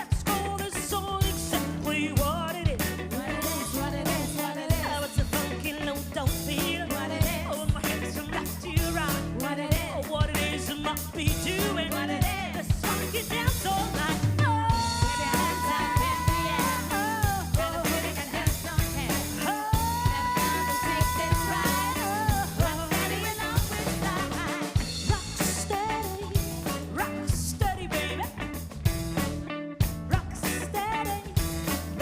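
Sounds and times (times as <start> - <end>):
funk band playing: 0.0 - 32.0.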